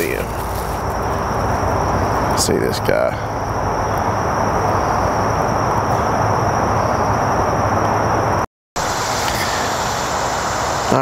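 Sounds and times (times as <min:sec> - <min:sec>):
faint high whine: 0:00.0 - 0:11.0
low hum: 0:00.0 - 0:11.0
steady rushing noise: 0:00.0 - 0:11.0.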